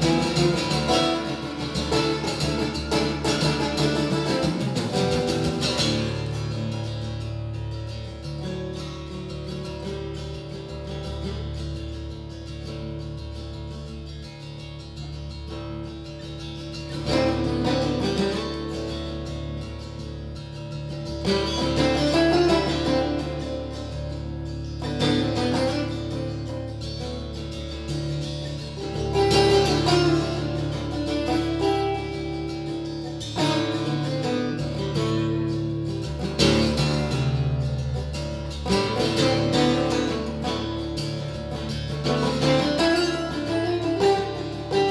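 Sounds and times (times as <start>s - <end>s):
acoustic guitar picked and strummed: 0.0s - 44.9s.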